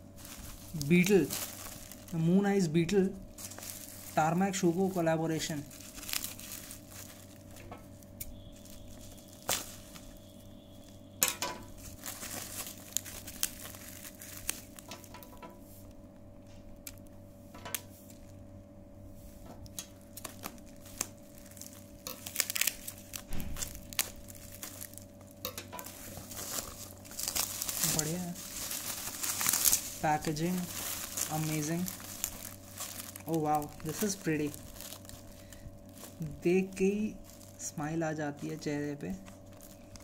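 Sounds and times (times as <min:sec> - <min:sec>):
bubble wrap crinkling: 0:00.0 - 0:40.0
steady low hum: 0:00.0 - 0:40.0.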